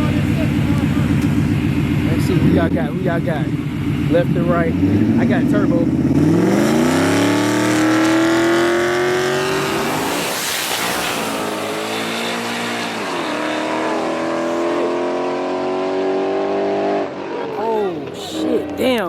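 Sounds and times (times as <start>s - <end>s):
car rushing past: 0.0s - 18.8s
racing car engines: 0.0s - 19.0s.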